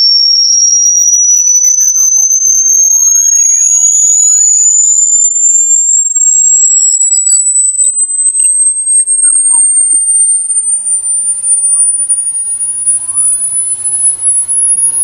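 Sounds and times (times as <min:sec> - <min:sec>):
faint short chirps: 0:00.0 - 0:15.0
shrill high-pitched rising tone: 0:00.0 - 0:15.0
faint sweeping tones: 0:01.2 - 0:15.0.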